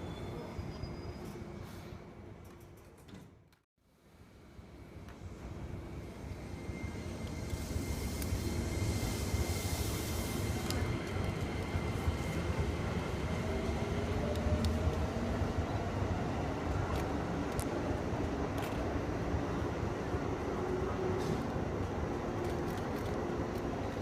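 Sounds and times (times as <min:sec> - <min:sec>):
train rumbling: 0:04.6 - 0:24.0.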